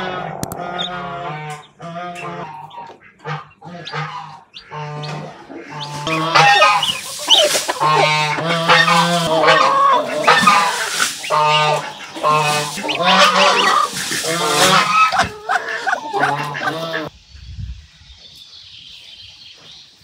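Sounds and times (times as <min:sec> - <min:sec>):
geese honking: 0:00.0 - 0:17.1.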